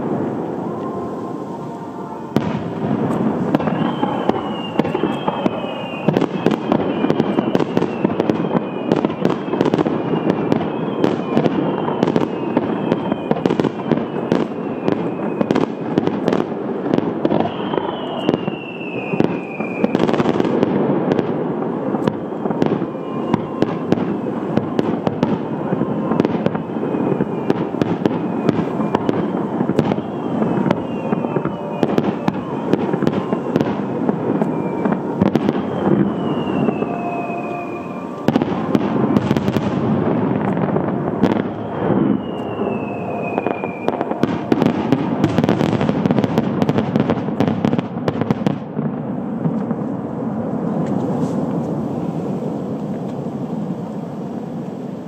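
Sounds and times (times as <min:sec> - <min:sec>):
firework whistles falling in pitch: 0:00.0 - 0:48.6
fireworks bangs and crackling: 0:00.0 - 0:55.0.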